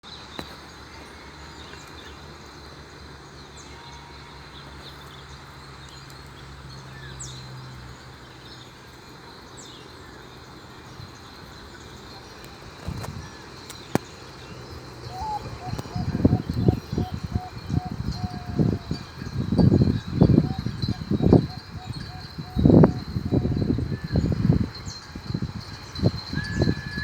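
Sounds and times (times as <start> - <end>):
small birds chirping: 4.6 - 27.0.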